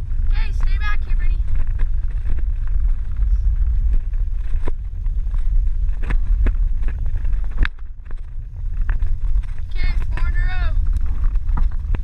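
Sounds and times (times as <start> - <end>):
bike clicks and rattles: 0.0 - 12.0
wind buffeting microphone: 0.0 - 12.0.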